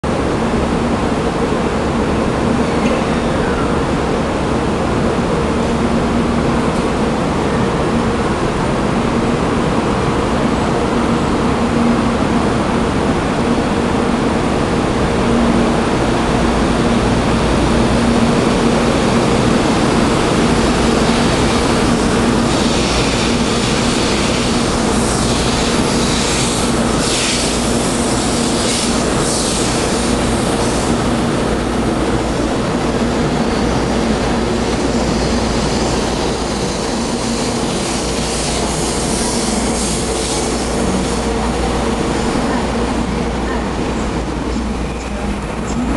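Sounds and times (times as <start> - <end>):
electric train rumbling: 0.0 - 45.9.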